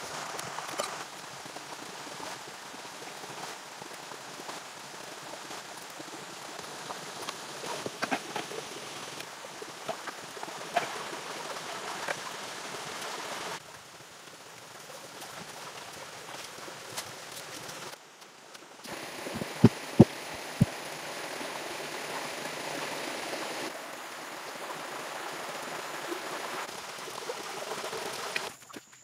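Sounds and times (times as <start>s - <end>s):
steady rain falling: 0.0s - 28.6s.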